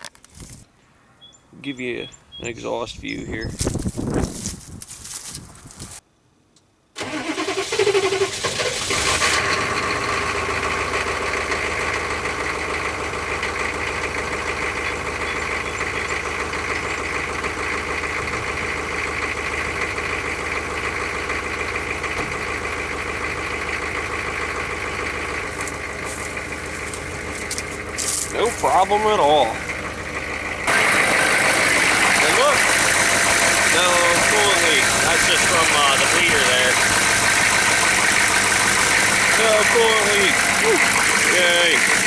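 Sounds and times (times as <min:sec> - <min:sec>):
diesel engine cranking and idling: 0:07.0 - 0:42.0.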